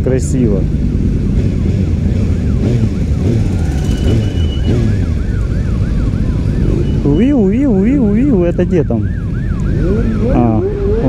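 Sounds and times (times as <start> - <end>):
motorcycle rumble: 0.0 - 11.0
emergency vehicle siren: 2.1 - 11.0.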